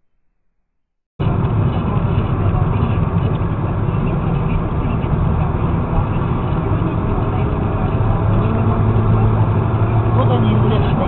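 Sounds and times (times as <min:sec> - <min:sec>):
car engine drone: 0:01.2 - 0:11.0.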